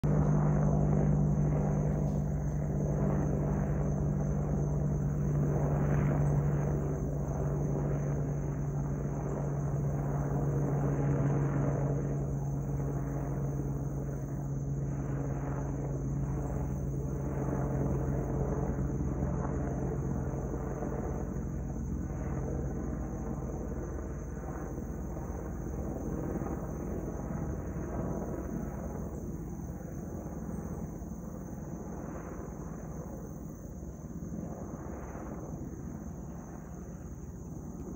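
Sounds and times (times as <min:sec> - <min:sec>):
helicopter flying overhead: 0:00.0 - 0:37.9.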